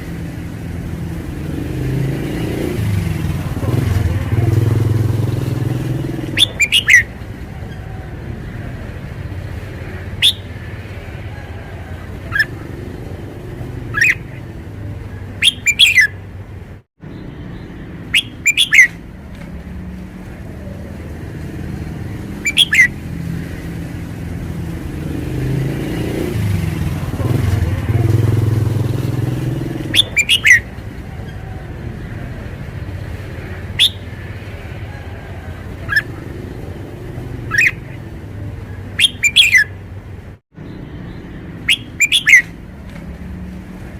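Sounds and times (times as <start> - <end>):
bulbul singing sharp phrases: 0.0 - 19.4, 20.3 - 43.9
low rumble of traffic: 0.0 - 43.9.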